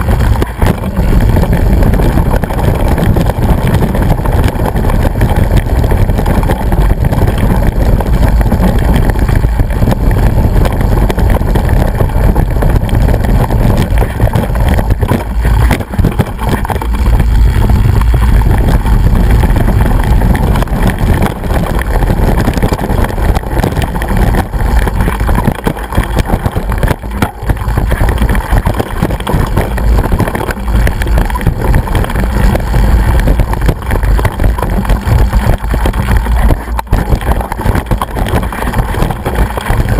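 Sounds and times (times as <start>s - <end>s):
bike rattling and knocking: 0.0s - 39.9s
wind rumble on microphone: 0.0s - 39.9s.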